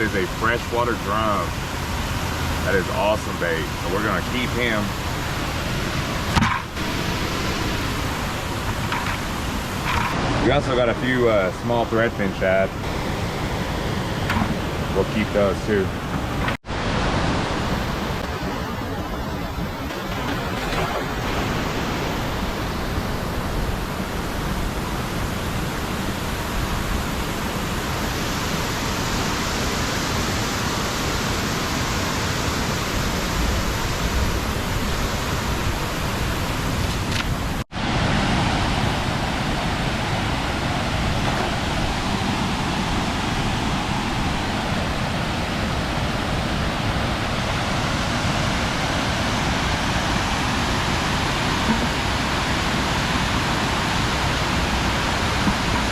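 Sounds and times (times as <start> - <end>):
floodwater rushing over spillway: 0.0 - 55.9.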